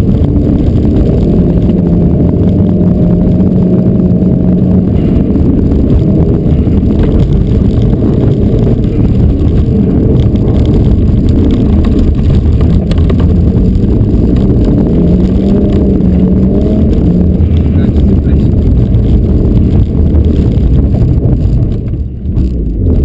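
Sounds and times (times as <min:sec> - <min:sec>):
car engine driven hard: 0:00.0 - 0:23.0
heavy road noise: 0:00.0 - 0:23.0.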